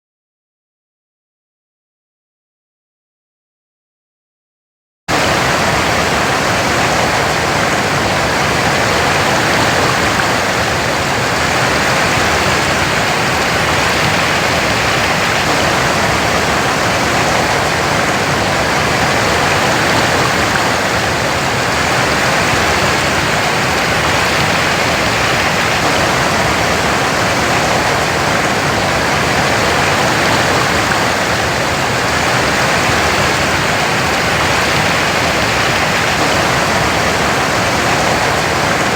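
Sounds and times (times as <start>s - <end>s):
waterfall rushing: 5.1s - 38.9s.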